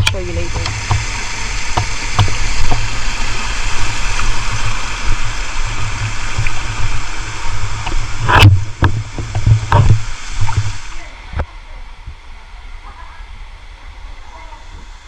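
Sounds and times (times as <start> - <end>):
low rumble on microphone: 0.0 - 15.0
waterfall rushing: 0.0 - 15.0.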